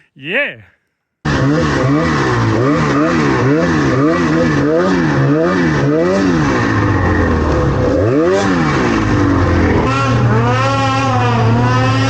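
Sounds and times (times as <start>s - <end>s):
snowmobile engine revving: 1.3s - 12.0s.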